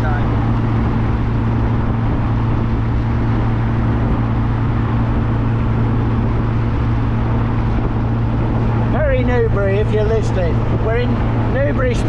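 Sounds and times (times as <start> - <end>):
car engine drone: 0.0 - 12.0
road and wind noise: 0.0 - 12.0.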